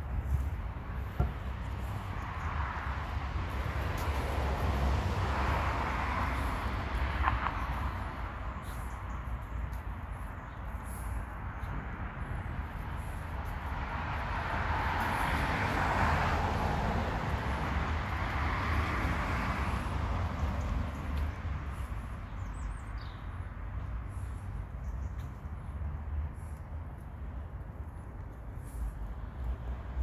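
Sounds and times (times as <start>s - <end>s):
steady low traffic rumble: 0.0s - 30.0s.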